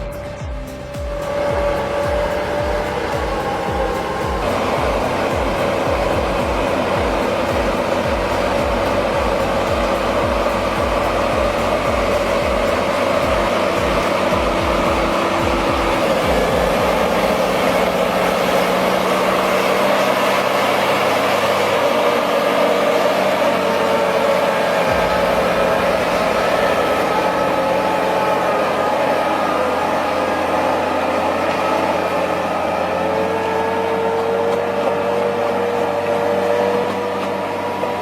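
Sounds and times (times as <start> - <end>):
heavy vehicle engine running: 0.0 - 38.0.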